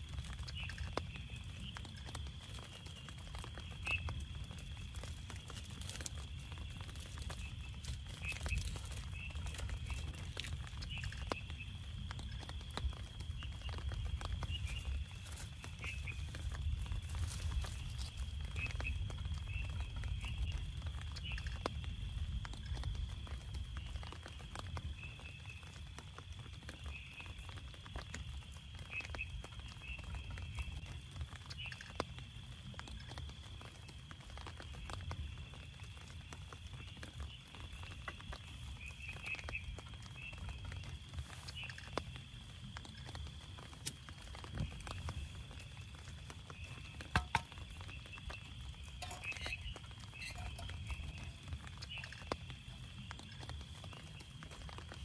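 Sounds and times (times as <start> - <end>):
rain pattering on tent: 0.0 - 55.0
frog or insect chirping calls: 0.1 - 26.0, 26.7 - 55.0.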